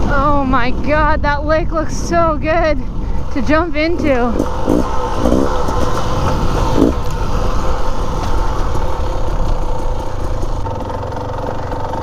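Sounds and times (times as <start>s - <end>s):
dirt bike engine running: 0.0s - 12.0s
wind rumble on microphone: 0.0s - 12.0s.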